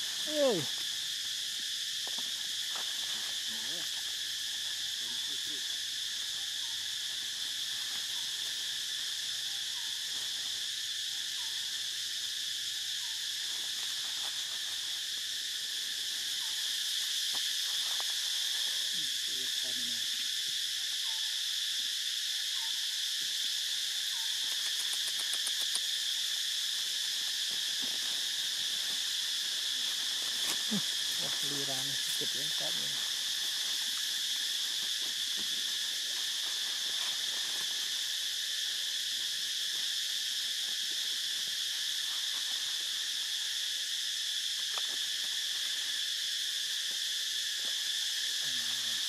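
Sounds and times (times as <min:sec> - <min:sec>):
shrill insect chorus: 0:00.0 - 0:49.0.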